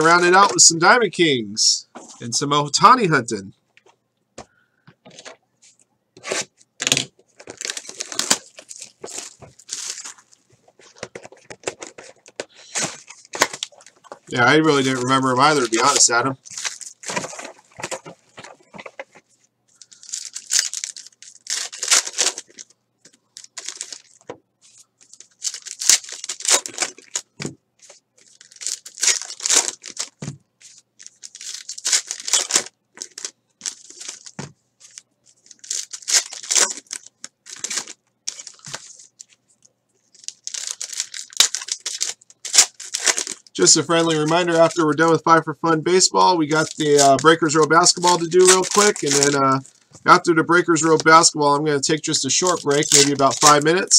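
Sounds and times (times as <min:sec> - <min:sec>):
foil wrappers crinkled and torn: 0:06.8 - 0:19.0, 0:19.8 - 0:24.2, 0:25.0 - 0:27.3, 0:27.9 - 0:39.4, 0:40.0 - 0:45.3, 0:46.3 - 0:53.9.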